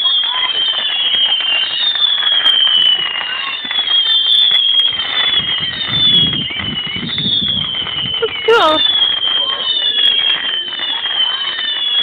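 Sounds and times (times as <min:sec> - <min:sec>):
fireworks crackling: 0:00.0 - 0:12.0
fireworks whistling: 0:00.0 - 0:12.0.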